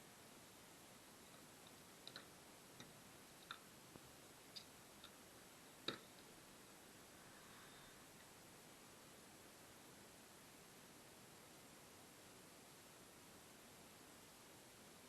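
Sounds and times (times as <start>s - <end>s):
quiet steady hiss: 0.0s - 15.0s.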